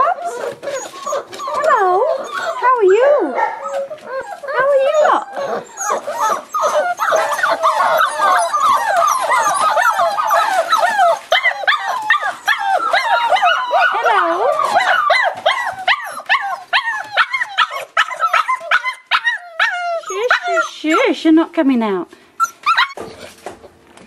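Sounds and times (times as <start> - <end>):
puppies whining and yelping: 0.0 - 21.3, 22.3 - 23.8.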